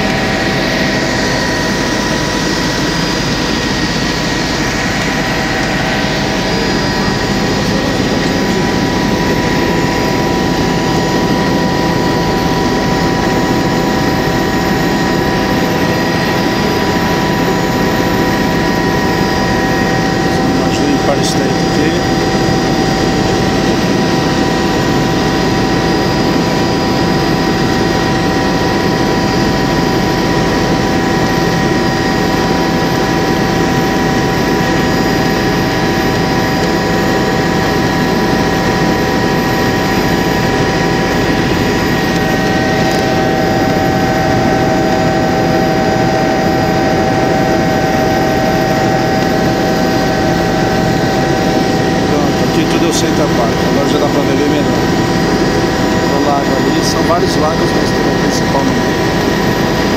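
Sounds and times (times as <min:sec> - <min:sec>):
helicopter engine and rotor drone: 0:00.0 - 0:59.9
steady whining tones: 0:00.0 - 0:59.9.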